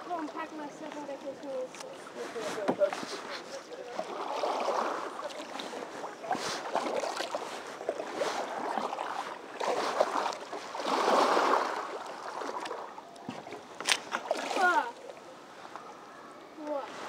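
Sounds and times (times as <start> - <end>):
paddle strokes swishing through water: 0.0 - 17.0.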